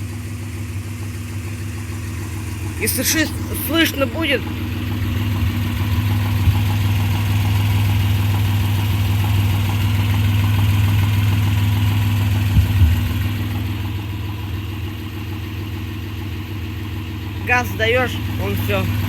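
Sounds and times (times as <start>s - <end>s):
car engine idling with ticking knock: 0.0s - 19.0s.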